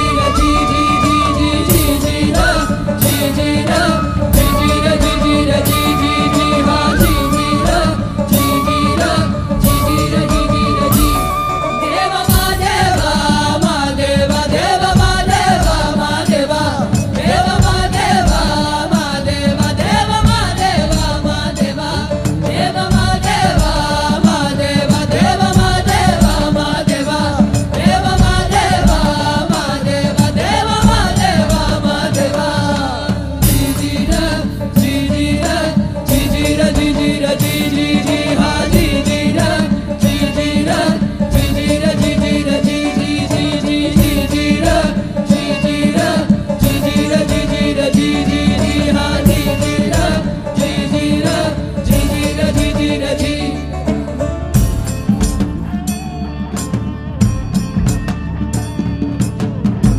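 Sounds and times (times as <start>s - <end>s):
dense drum rhythm: 0.0s - 59.9s
ornamented chant-like melody: 0.0s - 59.9s.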